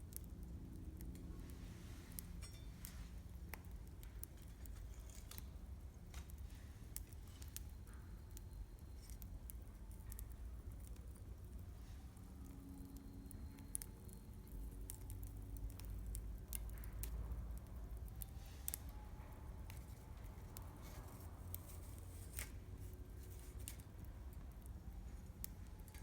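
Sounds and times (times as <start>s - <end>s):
low steady rumble: 0.0s - 26.0s
wood fire crackling and popping: 0.0s - 26.0s.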